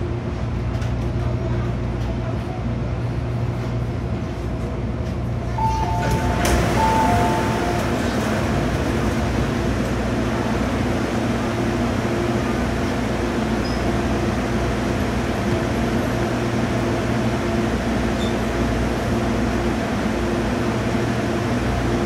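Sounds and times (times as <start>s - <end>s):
air-conditioning fans humming: 0.0s - 22.0s.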